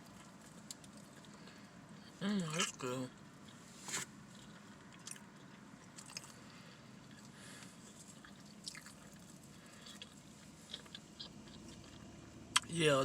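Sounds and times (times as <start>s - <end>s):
faint chewing: 0.0s - 12.7s.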